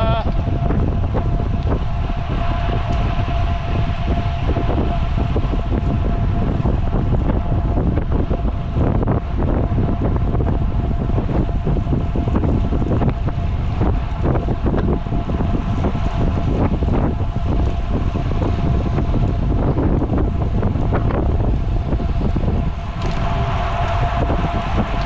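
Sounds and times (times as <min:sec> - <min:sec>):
faint steady hum: 0:00.0 - 0:25.0
wind buffeting microphone: 0:00.0 - 0:25.0.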